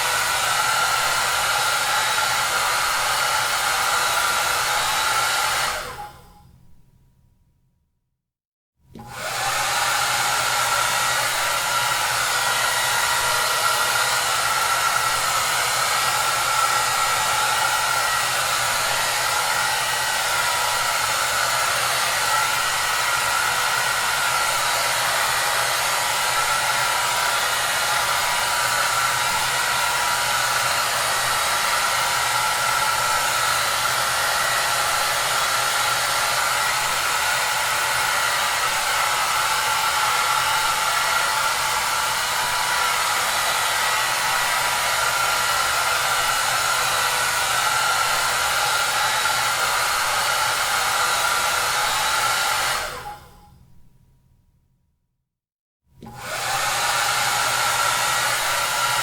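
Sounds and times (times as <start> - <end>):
hair dryer running: 0.0 - 6.4, 8.9 - 53.5, 56.0 - 59.0.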